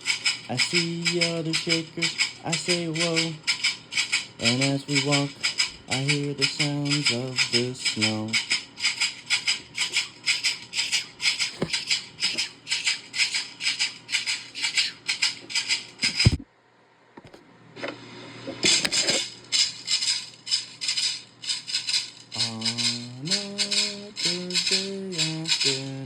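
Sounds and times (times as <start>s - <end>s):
shaker shaken rhythmically: 0.0s - 16.4s, 19.2s - 26.0s.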